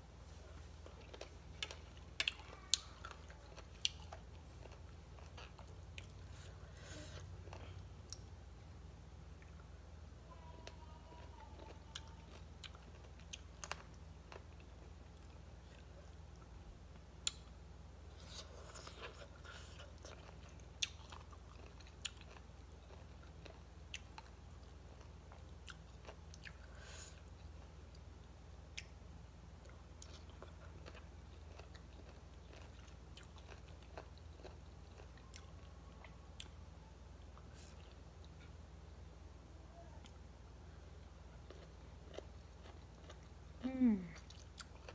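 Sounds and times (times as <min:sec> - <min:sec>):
chewing crunchy salad: 0:00.3 - 0:08.3, 0:10.7 - 0:17.5, 0:18.1 - 0:29.0, 0:29.6 - 0:38.6, 0:41.0 - 0:44.9.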